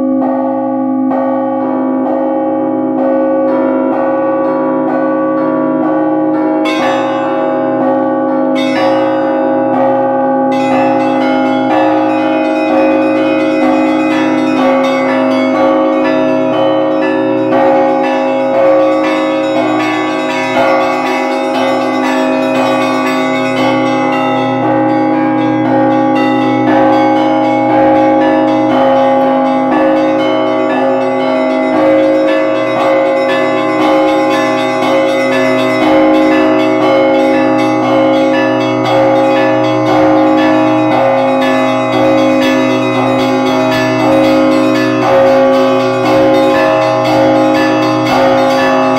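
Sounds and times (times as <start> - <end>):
large bells ringing: 0.0 - 48.9
small bells struck rapidly: 8.6 - 48.9.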